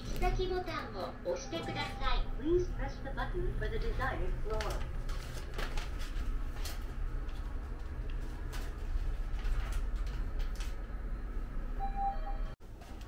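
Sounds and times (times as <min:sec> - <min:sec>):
elevator low rumble and hum: 0:00.0 - 0:13.0.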